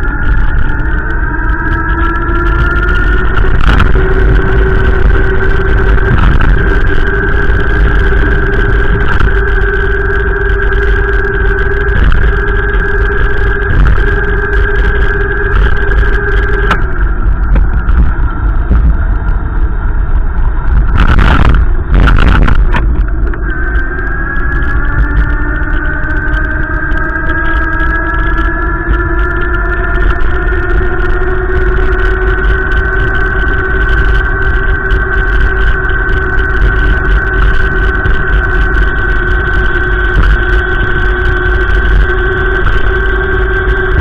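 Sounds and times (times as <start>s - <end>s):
car engine running: 0.0s - 44.0s
heavy low rumble: 0.0s - 44.0s.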